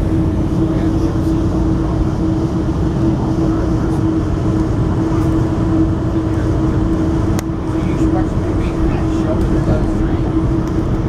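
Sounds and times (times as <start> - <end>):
constant low hum: 0.0 - 11.0
vehicle rumble from inside: 0.0 - 11.0.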